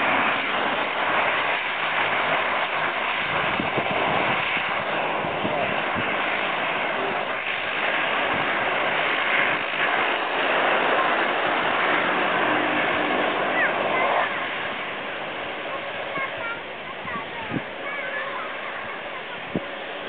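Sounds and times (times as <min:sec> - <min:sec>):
airliner engine rush: 0:00.0 - 0:20.0.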